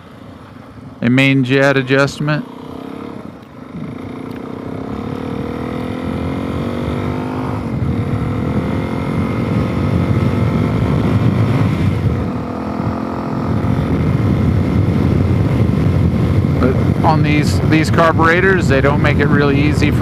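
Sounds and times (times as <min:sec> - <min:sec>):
motorcycle engine accelerating: 0:00.0 - 0:20.0
wind on microphone: 0:03.8 - 0:20.0.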